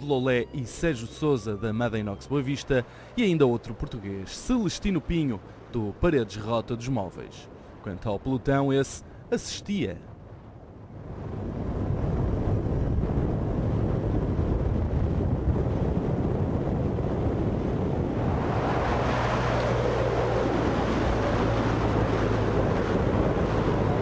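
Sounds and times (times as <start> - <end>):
vehicle engine drone: 0.0 - 24.0
wind rumble on microphone: 0.0 - 24.0.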